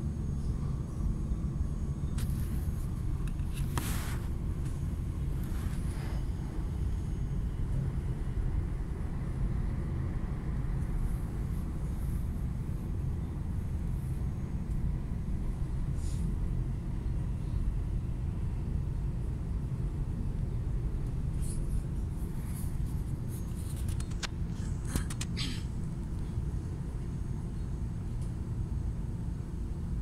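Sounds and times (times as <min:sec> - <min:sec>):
train rumbling inside carriage: 0:00.0 - 0:30.0.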